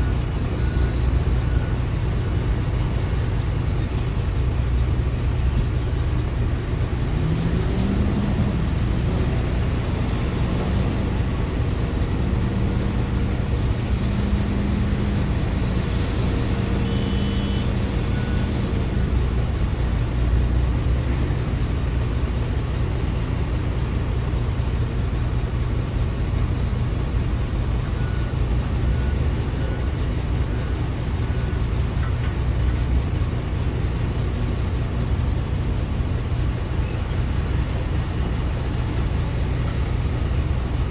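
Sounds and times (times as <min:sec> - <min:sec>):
diesel engines droning: 0:00.0 - 0:40.9.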